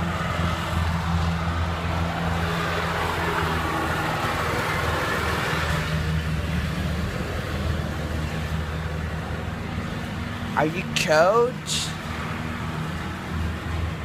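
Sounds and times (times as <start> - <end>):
riding lawnmower engine running: 0.0 - 14.0.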